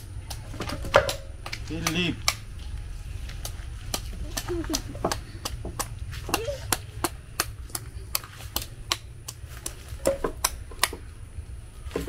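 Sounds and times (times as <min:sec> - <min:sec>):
machete chopping coconut: 0:00.0 - 0:02.5, 0:03.4 - 0:11.1.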